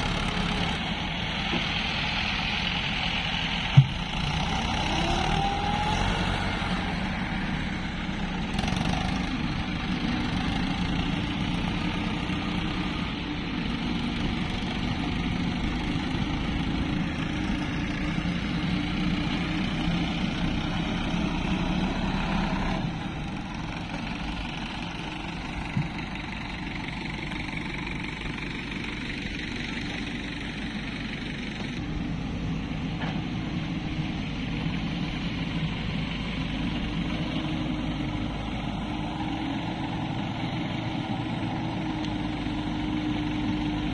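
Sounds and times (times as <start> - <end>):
excavator engine running: 0.0 - 43.9
tractor diesel engines: 0.0 - 43.9.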